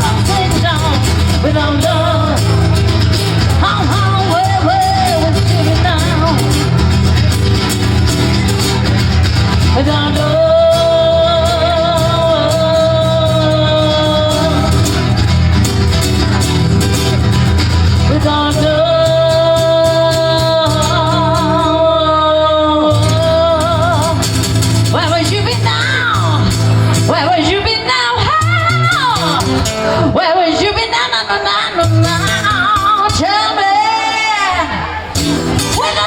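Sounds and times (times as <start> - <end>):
band music: 0.0 - 36.0.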